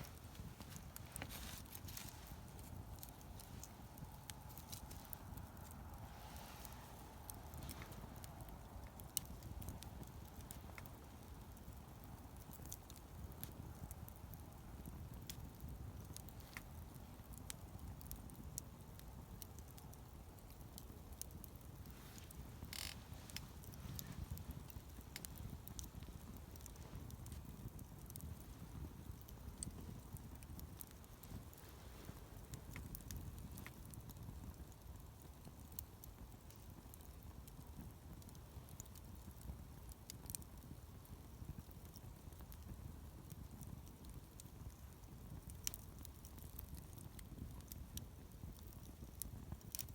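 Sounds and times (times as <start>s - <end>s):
campfire crackles and pops: 0.0s - 49.9s
low rumble of flame: 0.0s - 49.9s.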